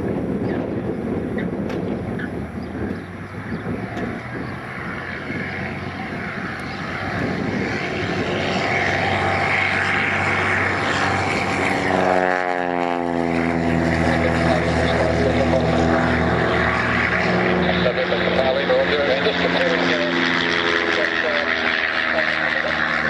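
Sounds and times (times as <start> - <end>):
wind rumbling on microphone: 0.0 - 20.1
light aircraft engine passing: 0.0 - 23.0.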